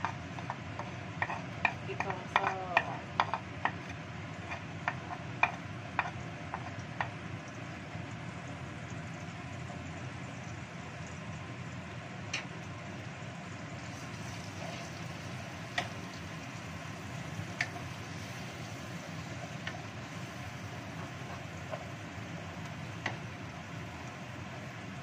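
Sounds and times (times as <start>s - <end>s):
spice paste sizzling in oil: 0.0s - 25.0s.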